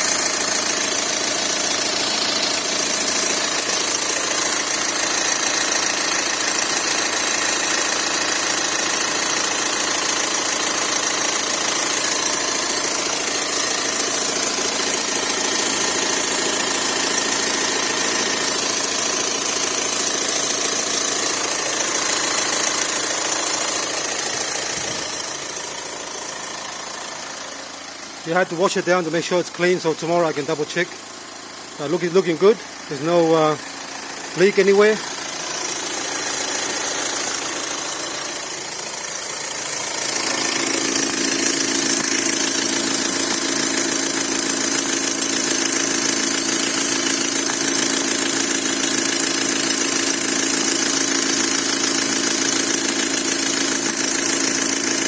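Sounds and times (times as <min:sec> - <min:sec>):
diesel engine idling: 0:00.0 - 0:50.4.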